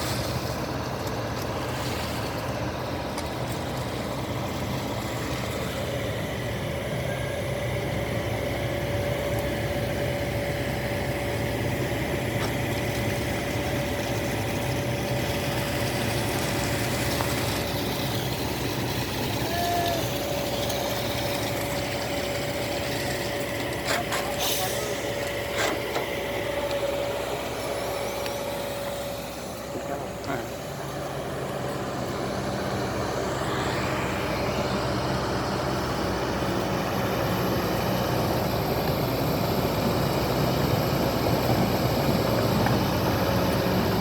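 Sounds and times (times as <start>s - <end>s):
heavy diesel engine running: 0.0s - 44.0s
steady whine: 0.0s - 44.0s.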